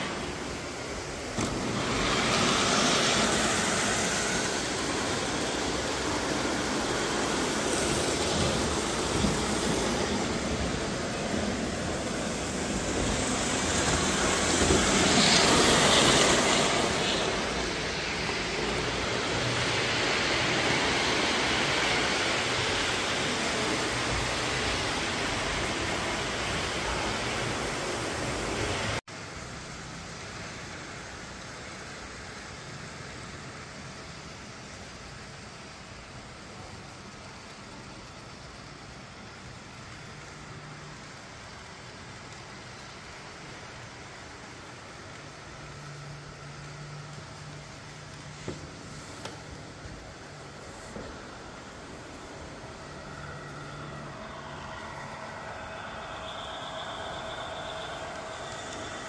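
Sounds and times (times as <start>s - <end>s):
model train wheels rumbling: 0.0s - 59.0s.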